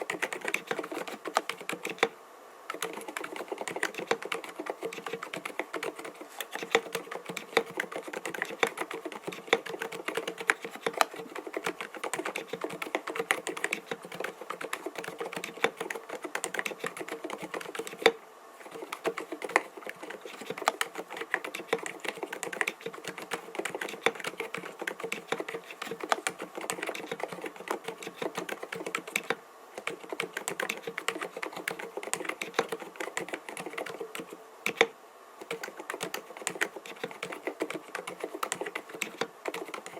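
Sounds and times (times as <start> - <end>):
mechanical keyboard typing: 0.0 - 2.1, 2.7 - 39.9.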